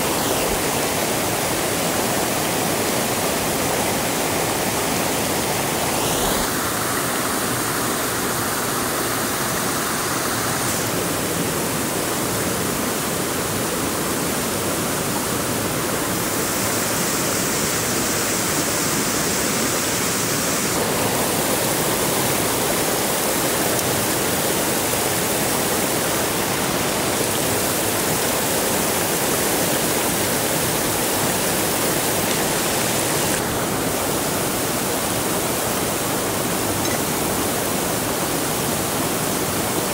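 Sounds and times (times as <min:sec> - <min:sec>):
hiss of rushing water: 0:00.0 - 0:39.9.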